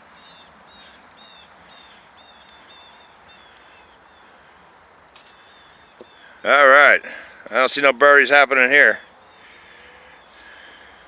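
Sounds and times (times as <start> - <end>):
bird chirping: 0.0 - 11.0
faint outdoor background noise: 0.0 - 11.0.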